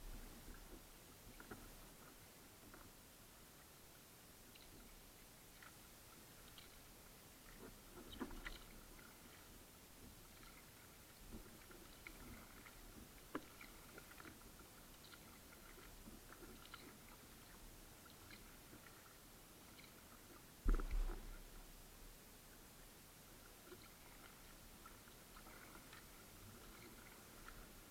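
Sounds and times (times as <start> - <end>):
paddle drips and splashes: 4.5 - 27.9.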